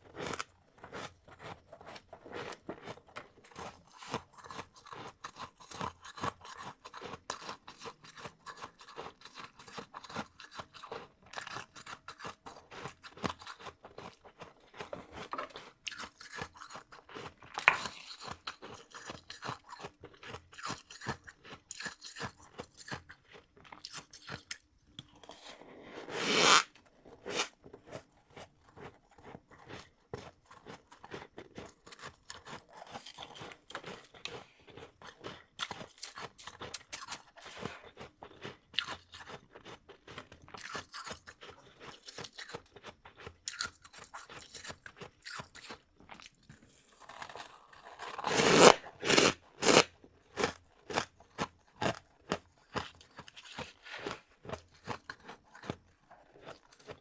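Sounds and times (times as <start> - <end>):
chewing crunchy frost: 0.0 - 57.0.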